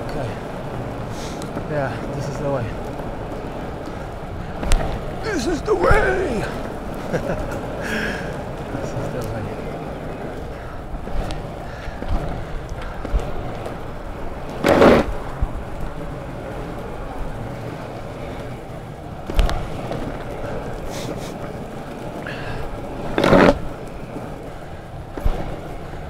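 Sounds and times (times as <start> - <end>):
longboard scraping rushes: 0.0 - 26.0
longboard wheels rolling: 0.0 - 26.0.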